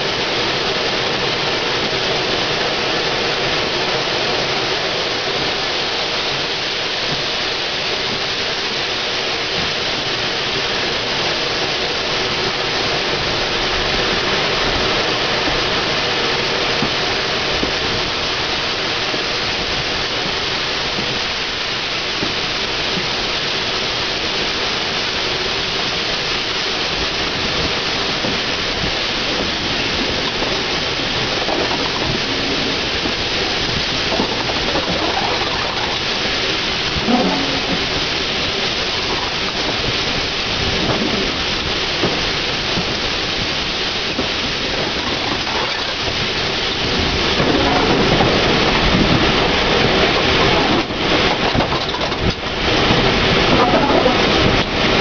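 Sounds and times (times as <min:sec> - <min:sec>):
steam locomotive rushing noise: 0:00.0 - 0:55.0.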